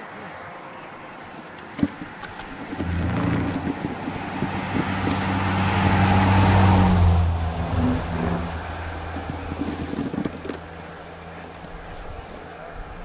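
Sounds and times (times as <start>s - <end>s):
snow-clearing machine engine: 2.4s - 13.0s.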